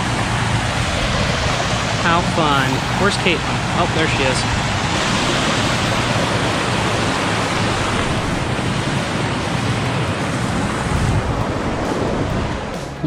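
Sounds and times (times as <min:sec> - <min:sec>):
floodwater rushing over rocks: 0:00.0 - 0:12.8.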